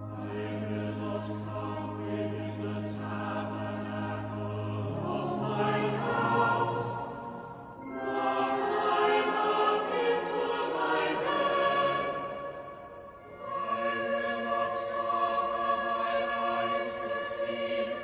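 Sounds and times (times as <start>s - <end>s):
choir singing sacred music: 0.0s - 18.0s.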